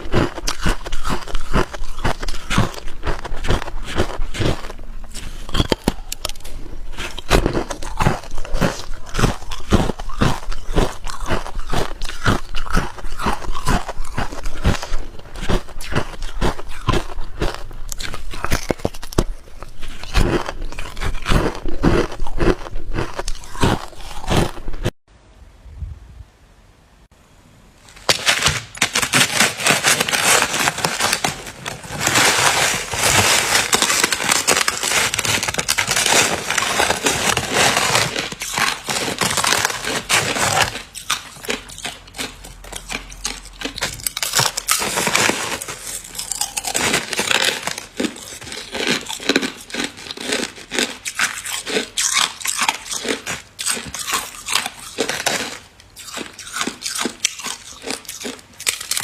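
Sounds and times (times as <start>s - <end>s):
ice being chewed: 0.0s - 25.0s, 29.9s - 59.0s.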